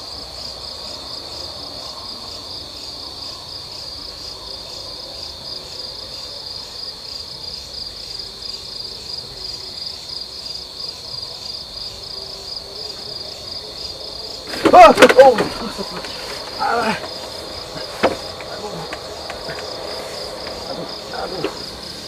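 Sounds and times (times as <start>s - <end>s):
pulsing chorus of insects: 0.0s - 22.0s.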